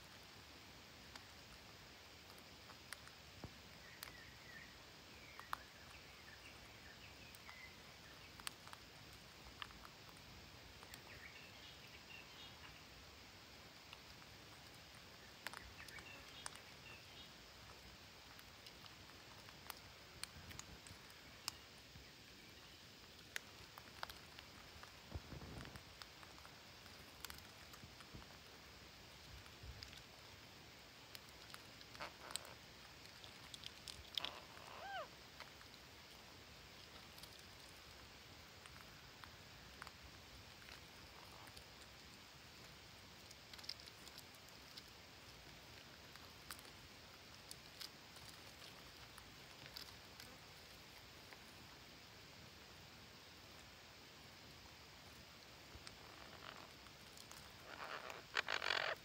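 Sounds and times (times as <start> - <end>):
birds pecking at soil: 0.0 - 59.0
low hiss: 0.0 - 59.0.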